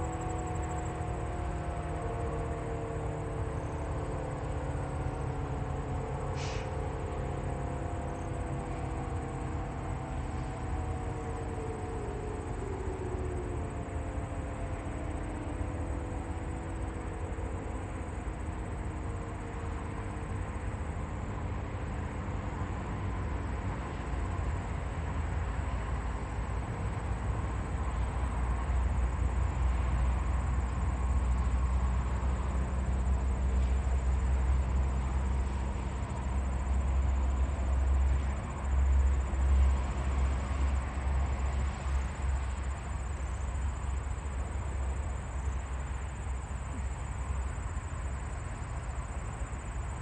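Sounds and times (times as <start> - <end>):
distant warning sirens: 0.0 - 49.9
road traffic: 0.0 - 50.0.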